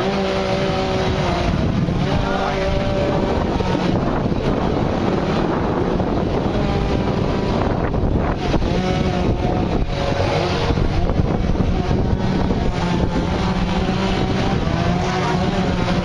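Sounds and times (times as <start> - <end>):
chainsaws running: 0.0 - 16.0.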